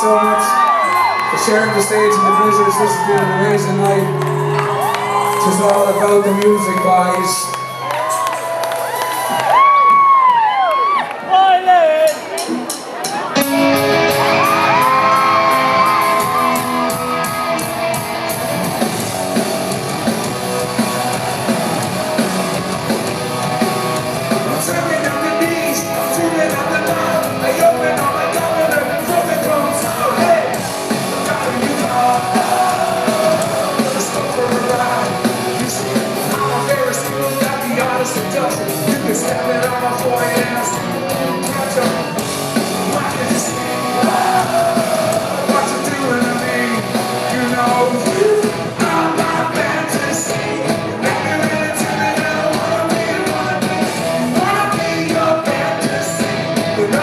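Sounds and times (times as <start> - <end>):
live rock band with singing: 0.0 - 11.3, 12.0 - 57.0
crowd yelling: 0.0 - 57.0.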